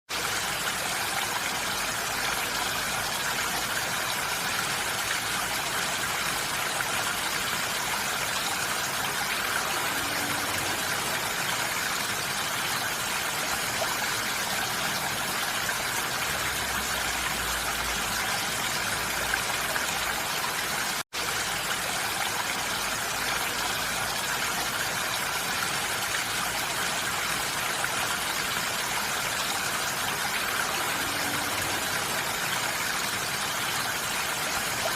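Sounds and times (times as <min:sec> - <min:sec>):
rain falling on a roof: 0:00.1 - 0:34.9.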